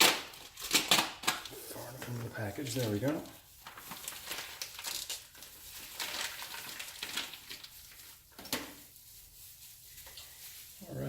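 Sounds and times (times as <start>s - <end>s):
plastic package crinkling: 0.0s - 10.8s.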